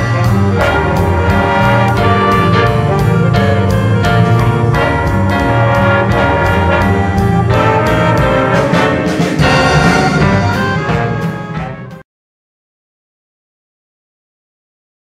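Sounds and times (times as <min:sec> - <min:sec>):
jazz band playing: 0:00.0 - 0:12.0.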